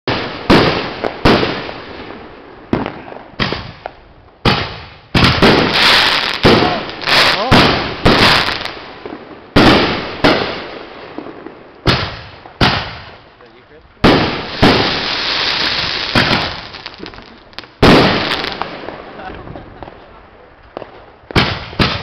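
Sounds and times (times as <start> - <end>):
firework crackling: 0.1 - 22.0.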